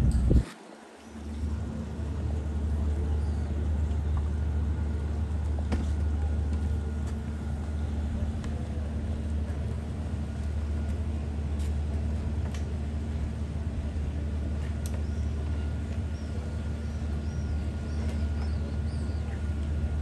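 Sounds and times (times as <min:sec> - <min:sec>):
boat engines droning: 0:00.0 - 0:20.0
faint hum: 0:00.0 - 0:20.0.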